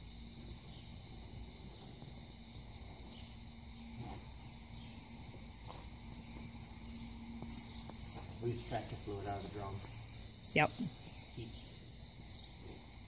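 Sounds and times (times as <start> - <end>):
faint low hum: 0.0 - 13.0
high-pitched insect buzz: 0.0 - 13.0.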